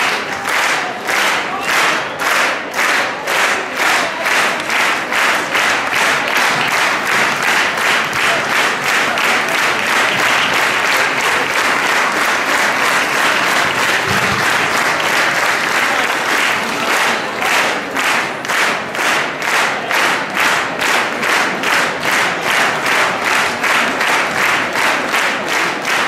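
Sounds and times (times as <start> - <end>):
audience clapping in unison: 0.0 - 26.0.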